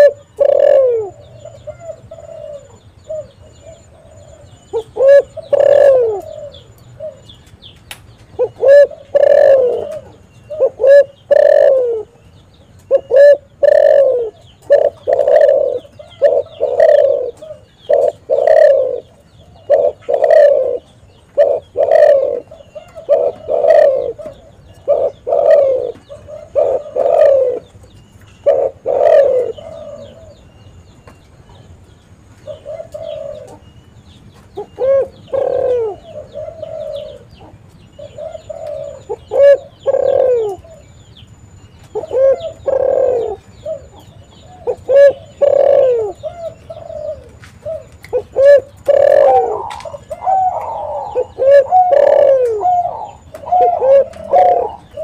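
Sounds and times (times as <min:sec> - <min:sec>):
dove cooing: 0:00.0 - 0:07.4, 0:08.3 - 0:30.8, 0:31.4 - 0:41.0, 0:41.8 - 0:55.0.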